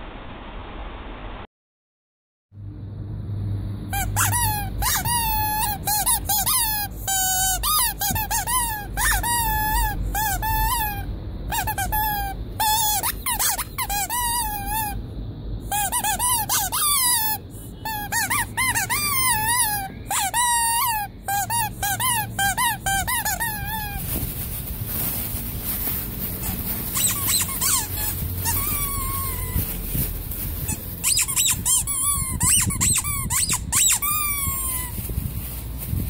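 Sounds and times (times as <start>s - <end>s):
faint steady hum: 2.6s - 36.0s
rubber squeaky toy squeaking: 3.9s - 15.0s, 15.7s - 25.2s, 25.8s - 35.1s.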